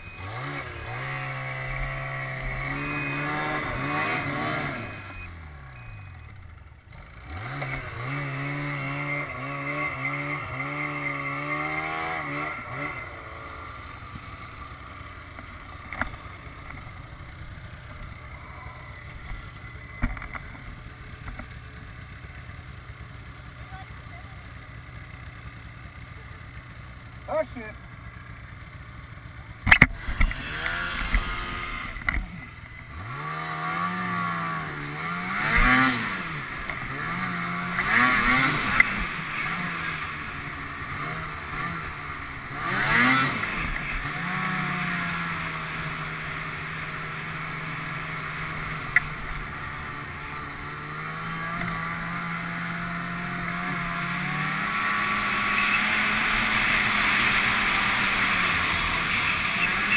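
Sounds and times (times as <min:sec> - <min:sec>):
snowmobile engine revving: 0:00.0 - 0:06.0, 0:06.9 - 0:22.0, 0:29.6 - 0:59.9.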